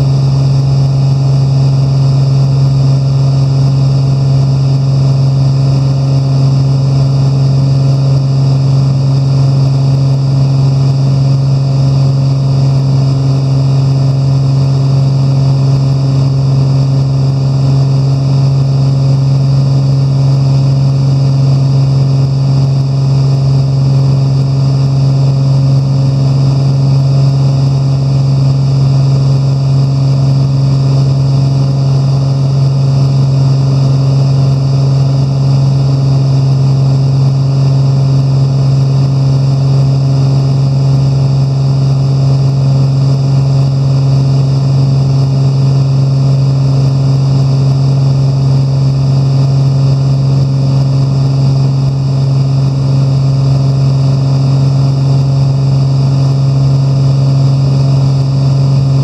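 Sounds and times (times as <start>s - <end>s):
aircraft cabin engine drone: 0.0s - 59.0s.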